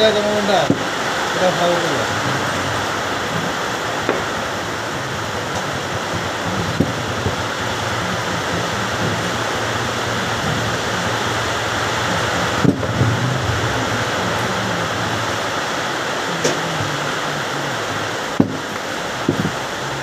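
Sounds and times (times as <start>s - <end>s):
workshop fan hiss: 0.0s - 20.0s.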